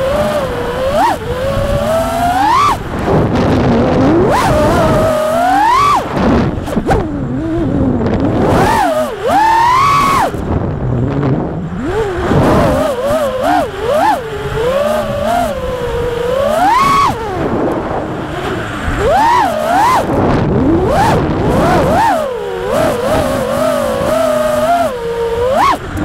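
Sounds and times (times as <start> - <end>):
drone motors whining: 0.0 - 26.0
rushing air noise: 0.0 - 26.0.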